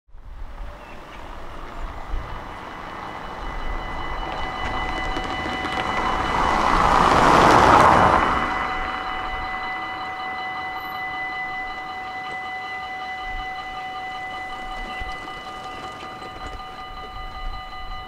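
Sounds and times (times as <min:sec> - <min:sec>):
car passing on brick road: 0:00.2 - 0:18.0.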